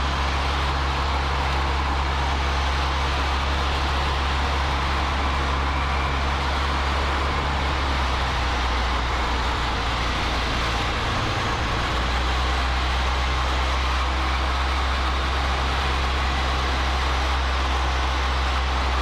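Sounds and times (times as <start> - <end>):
aircraft engine and propeller droning: 0.0 - 19.0.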